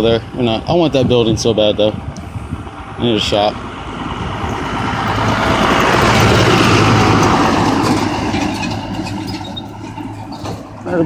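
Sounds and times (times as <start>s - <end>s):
pickup truck passing by: 0.0s - 11.0s
road noise: 0.0s - 11.0s.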